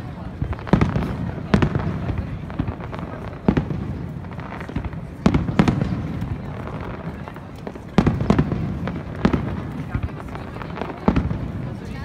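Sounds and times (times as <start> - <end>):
firework crackles: 0.0 - 12.0
firework shells booming: 0.4 - 11.8.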